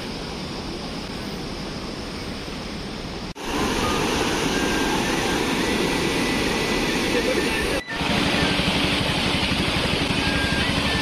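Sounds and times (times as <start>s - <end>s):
rushing water and air: 0.0s - 11.0s.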